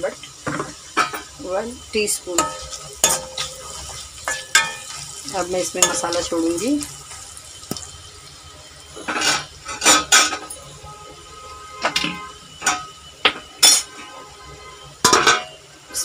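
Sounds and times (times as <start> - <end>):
utensils clanking on metal pans: 0.0 - 7.9, 8.9 - 10.9, 11.8 - 16.0
onions sizzling in oil: 0.0 - 16.0.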